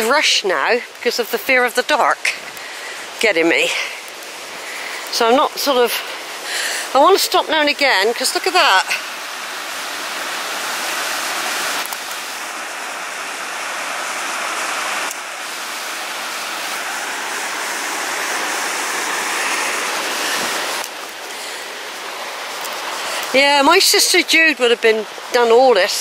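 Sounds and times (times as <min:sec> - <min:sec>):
river rushing over boulders: 0:00.0 - 0:26.0.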